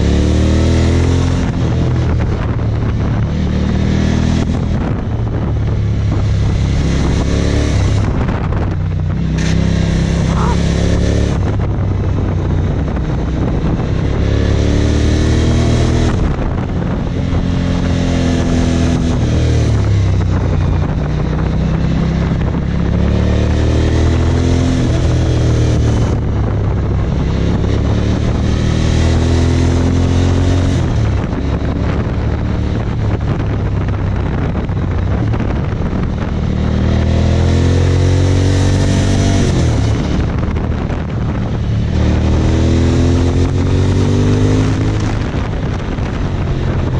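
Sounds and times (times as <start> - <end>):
motorcycle engine revving: 0.0 - 46.9
wind rushing over microphone: 0.0 - 46.9.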